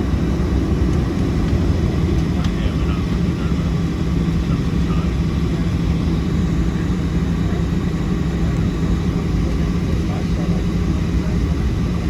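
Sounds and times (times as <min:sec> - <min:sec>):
jet engine drone in cabin: 0:00.0 - 0:12.0.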